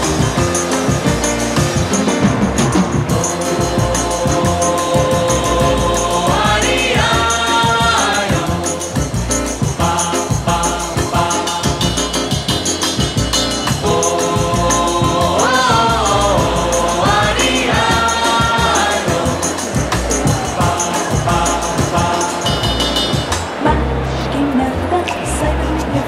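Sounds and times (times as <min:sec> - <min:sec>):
percussion beat: 0:00.0 - 0:23.7
voices singing: 0:00.0 - 0:26.0.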